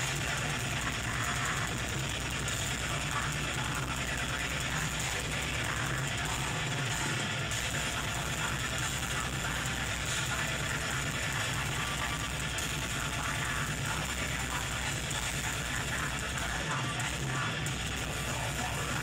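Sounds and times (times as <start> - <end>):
distorted guitars: 0.0 - 19.0
rapid clattering drumming: 0.0 - 19.0.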